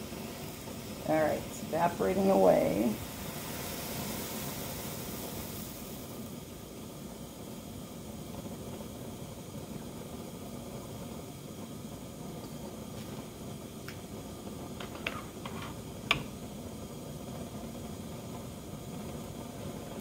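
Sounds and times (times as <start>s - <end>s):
gas flame hissing: 0.0s - 20.0s.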